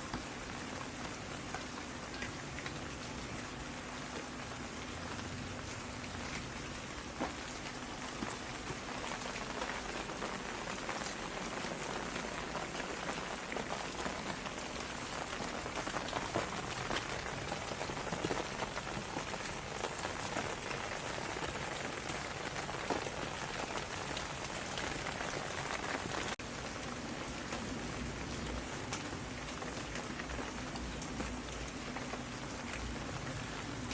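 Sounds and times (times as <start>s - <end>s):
raindrops ticking on a surface: 0.0s - 33.9s
steady rain falling: 0.0s - 33.9s.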